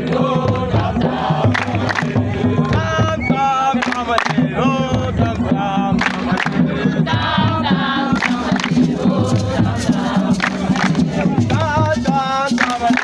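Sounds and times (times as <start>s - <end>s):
group of voices chanting: 0.0s - 13.0s
rhythmic percussion beat: 0.0s - 13.0s.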